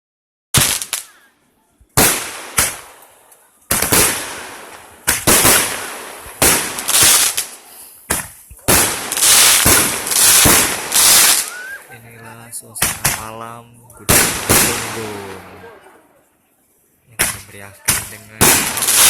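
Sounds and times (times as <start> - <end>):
fireworks bursting with echo: 0.5 - 12.0, 12.6 - 16.1, 17.1 - 19.0.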